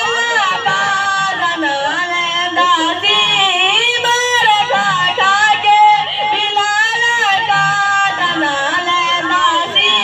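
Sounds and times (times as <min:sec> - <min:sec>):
boys singing devotional song: 0:00.0 - 0:10.0.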